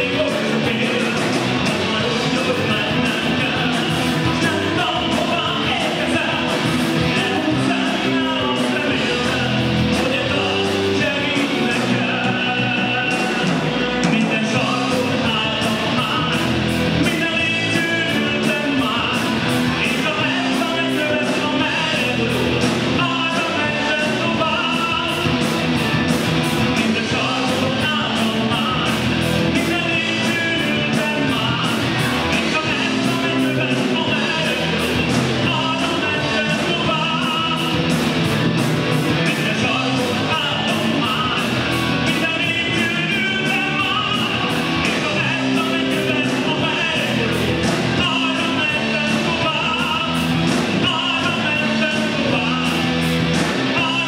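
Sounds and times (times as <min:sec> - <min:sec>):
man singing: 0:00.0 - 0:38.2, 0:39.0 - 0:54.0
drums with cymbal beat: 0:00.0 - 0:54.0
electric guitars: 0:00.0 - 0:54.0
keyboard: 0:00.0 - 0:54.0.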